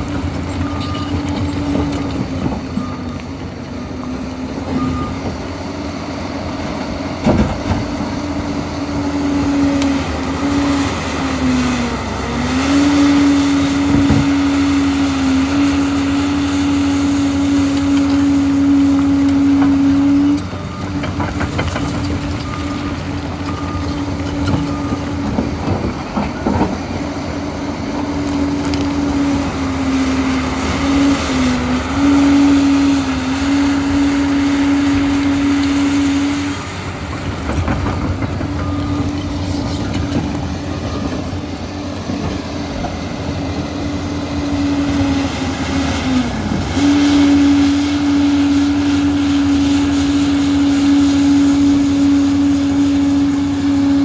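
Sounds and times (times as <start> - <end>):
diesel engine humming: 0.0 - 54.0
steel tracks rattling: 0.0 - 54.0.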